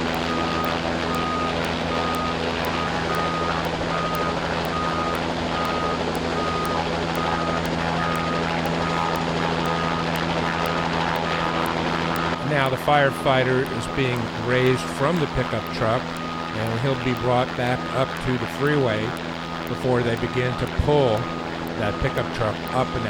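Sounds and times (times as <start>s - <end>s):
truck engine running: 0.0s - 20.3s
warning beeper: 0.0s - 23.0s.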